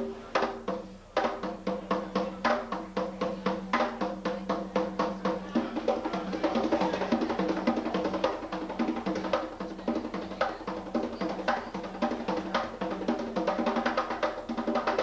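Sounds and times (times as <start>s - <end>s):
pitched drums struck fast: 0.0s - 15.0s.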